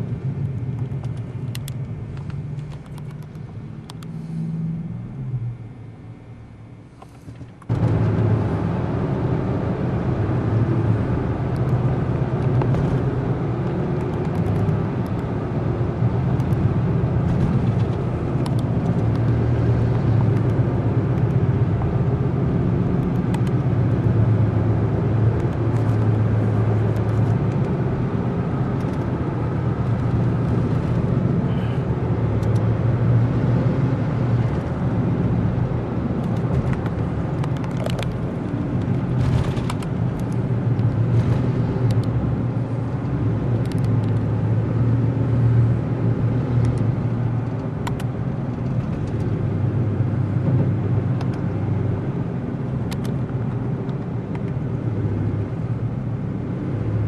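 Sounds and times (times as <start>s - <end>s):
motor vehicle low rumble: 0.0s - 57.0s.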